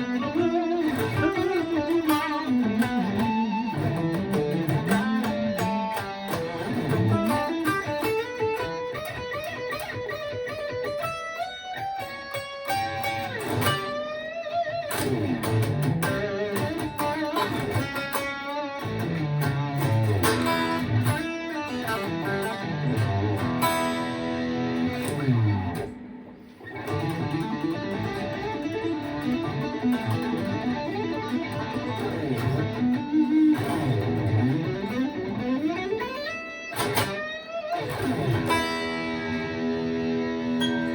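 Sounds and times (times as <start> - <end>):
distorted electric guitar shredding: 0.0 - 40.9.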